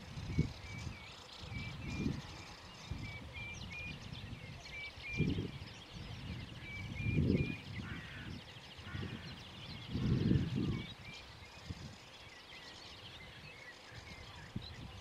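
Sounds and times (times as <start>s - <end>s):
small birds calling: 0.0s - 15.0s.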